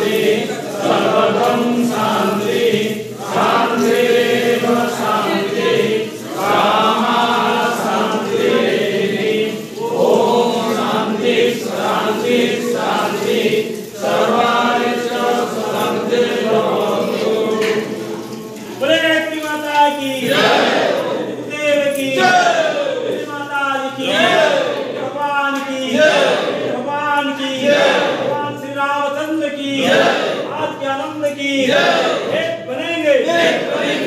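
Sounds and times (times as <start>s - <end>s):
group chanting a prayer in unison: 0.0s - 34.0s.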